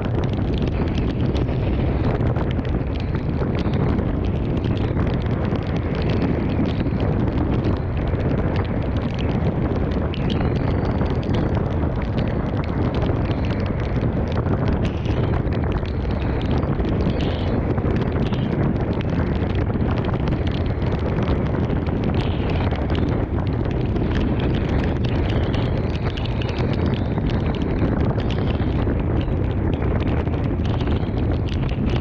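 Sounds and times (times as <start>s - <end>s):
heavy rain drops pattering: 0.0s - 32.0s
wind gusting on microphone: 0.0s - 32.0s.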